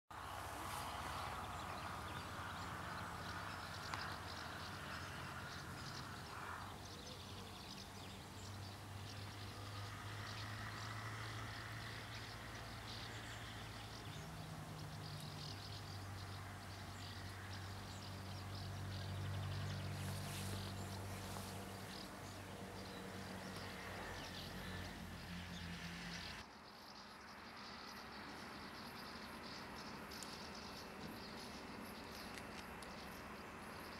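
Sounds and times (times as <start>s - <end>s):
faint scattered ticks: 1.8s - 24.8s, 26.3s - 33.9s.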